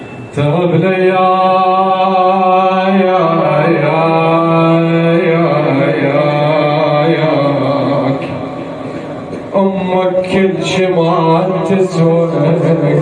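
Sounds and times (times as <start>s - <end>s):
man chanting a lament: 0.3s - 13.0s.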